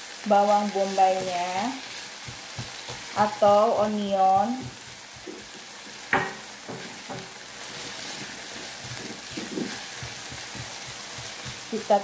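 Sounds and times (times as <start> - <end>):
meat and onion sizzling in a pan: 0.0 - 12.0
spatula knocking on pan: 2.2 - 12.0.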